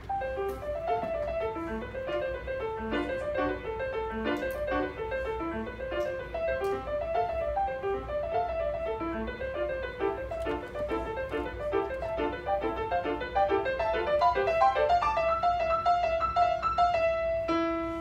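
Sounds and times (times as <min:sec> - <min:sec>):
classical piano piece: 0:00.0 - 0:18.0.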